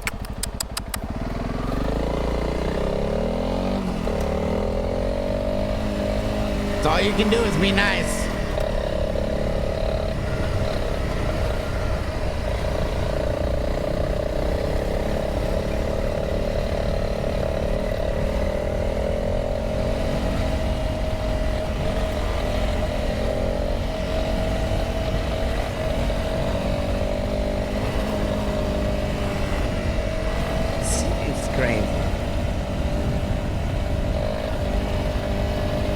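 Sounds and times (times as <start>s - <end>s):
motorcycle engine running: 0.0s - 35.9s
wind and riding noise: 0.0s - 35.9s.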